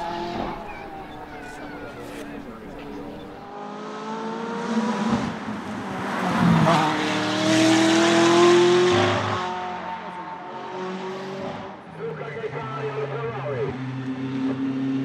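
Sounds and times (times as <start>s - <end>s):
race car accelerating past: 0.0s - 15.0s.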